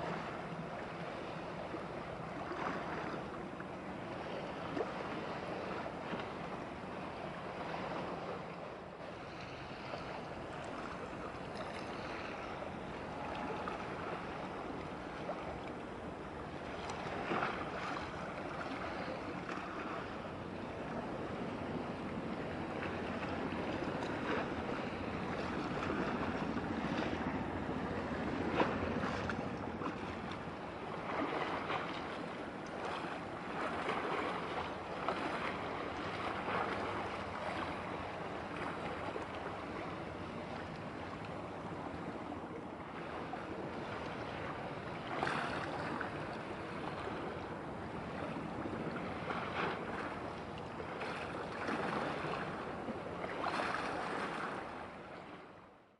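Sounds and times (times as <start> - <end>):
wash of sea water: 0.0 - 55.4.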